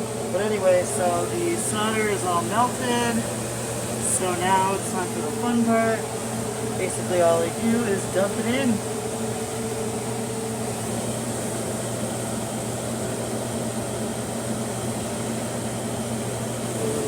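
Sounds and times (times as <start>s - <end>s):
electric fan rushing with low hum: 0.0s - 17.0s.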